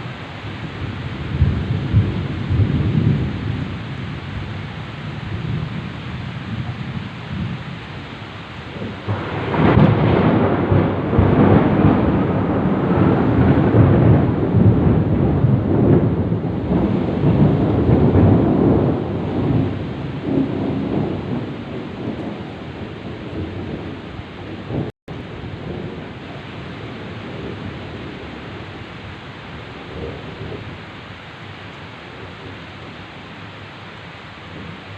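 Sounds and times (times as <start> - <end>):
heavy rain falling: 0.0 - 34.9
rolling thunder: 0.6 - 8.0, 8.6 - 30.9.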